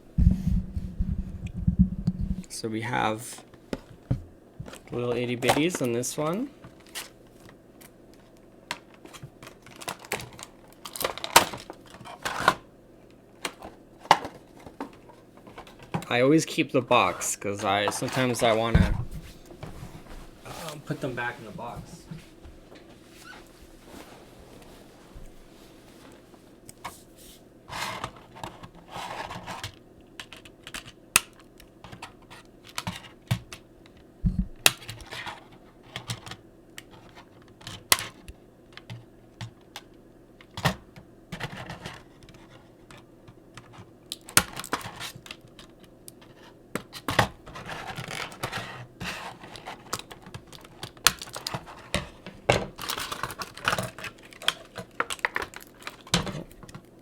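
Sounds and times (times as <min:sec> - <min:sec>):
cardboard and plastic rustling: 0:03.6 - 0:12.7, 0:13.4 - 0:16.2, 0:16.9 - 0:31.0, 0:34.3 - 0:57.0.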